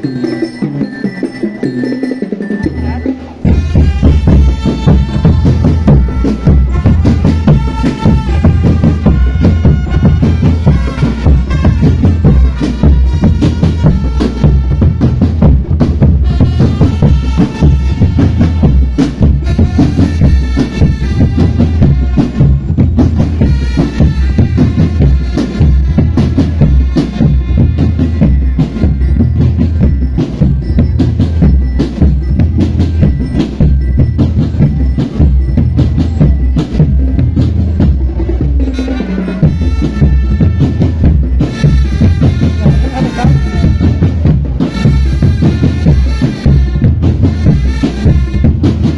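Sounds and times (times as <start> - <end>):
bass drums and snare drums: 0.0 - 48.9
pitched melody: 0.0 - 48.9.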